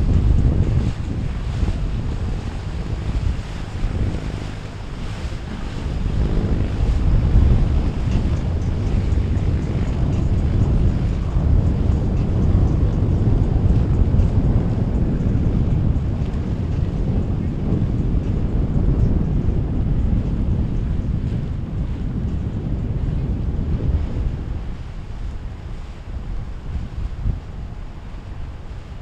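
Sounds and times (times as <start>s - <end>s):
boat engines running: 0.0s - 29.0s
moving water: 0.0s - 29.0s
wind buffeting microphone: 0.0s - 29.0s.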